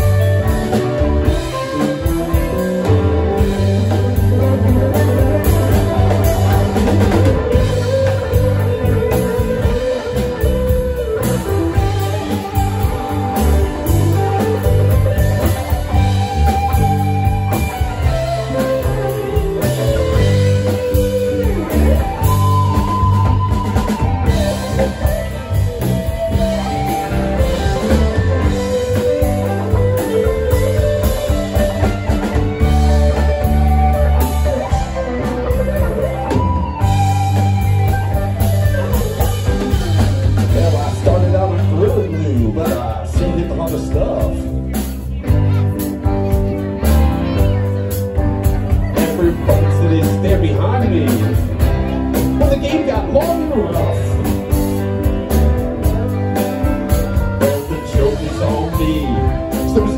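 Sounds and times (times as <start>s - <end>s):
drum kit: 0.0s - 59.9s
electric bass: 0.0s - 59.9s
electric guitars: 0.0s - 59.9s
keyboard: 0.0s - 59.9s.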